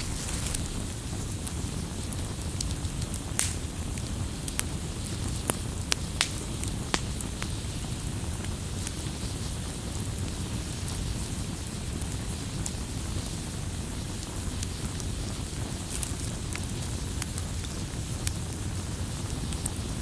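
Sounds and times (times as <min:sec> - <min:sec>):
fire crackling and popping: 0:00.0 - 0:20.0
low rush of flames: 0:00.0 - 0:20.0.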